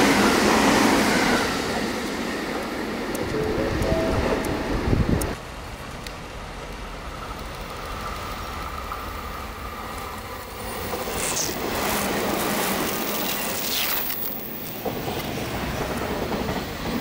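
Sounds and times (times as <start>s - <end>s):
loud train running noise: 0.0s - 17.0s
train wheels on rails passing: 0.0s - 17.0s.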